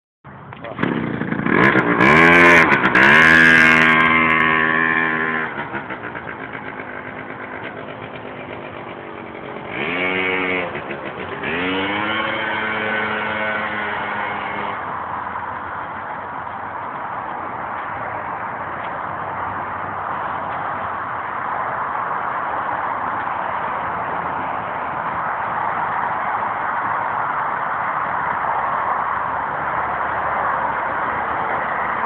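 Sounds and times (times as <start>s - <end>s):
moped engine revving: 0.6s - 26.9s.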